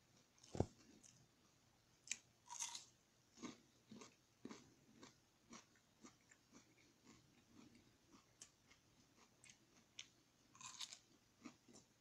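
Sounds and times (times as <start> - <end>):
crunchy chewing: 2.0 - 11.9.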